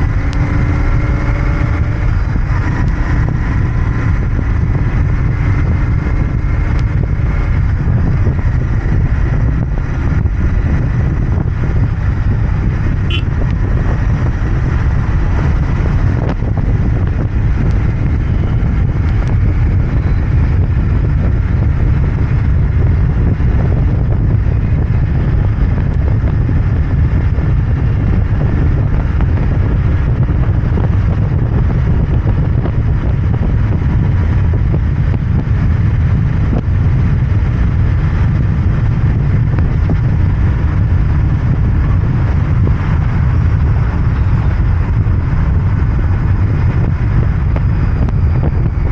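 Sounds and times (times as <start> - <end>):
motorcycle engine running: 0.0 - 48.9
road and wind rumble: 0.0 - 48.9.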